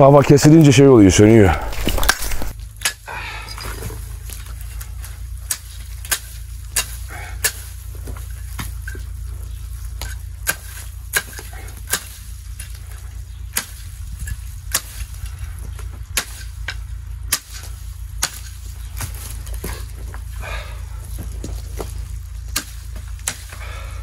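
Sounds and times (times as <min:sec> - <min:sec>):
billhook hacking branches: 0:01.3 - 0:24.0.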